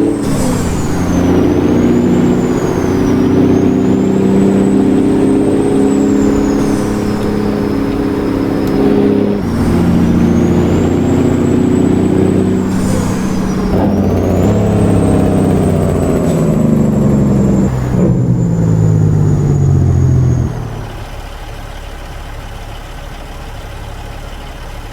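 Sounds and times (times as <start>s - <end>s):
turbo whistle: 0.0s - 21.2s
diesel truck engine accelerating: 0.0s - 24.9s.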